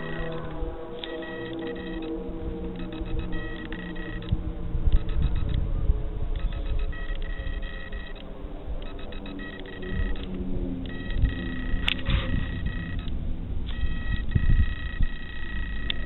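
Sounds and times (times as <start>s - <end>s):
high beep-like tones: 0.0s - 5.6s, 6.4s - 8.2s, 8.8s - 13.1s, 13.7s - 16.0s
eerie groaning tones: 0.0s - 13.1s
low rumble: 0.0s - 16.0s.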